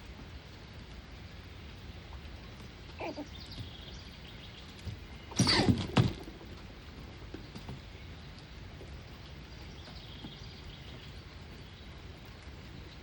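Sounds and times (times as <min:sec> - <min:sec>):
rain patter: 0:00.0 - 0:13.0
squirrels scrambling: 0:01.9 - 0:13.0.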